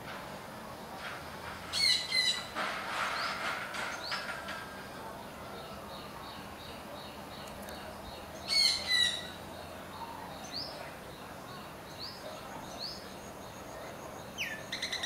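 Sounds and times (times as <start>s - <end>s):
small birds chirping: 1.7s - 15.0s.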